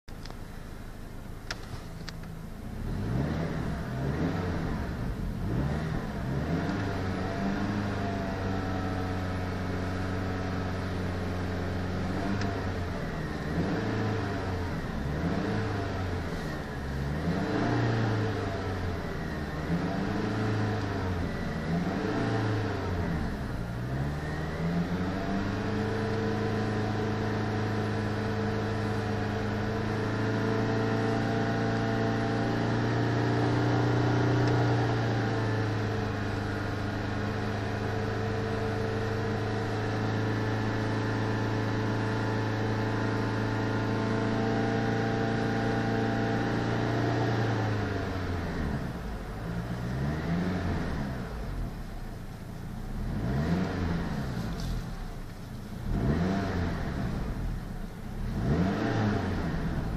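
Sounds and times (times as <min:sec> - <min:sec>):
car engine revving: 0:01.5 - 0:59.9.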